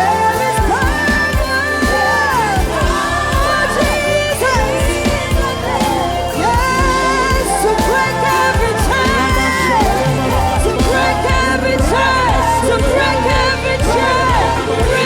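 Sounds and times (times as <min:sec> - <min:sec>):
gospel band playing: 0:00.0 - 0:15.0
person singing: 0:00.0 - 0:15.0.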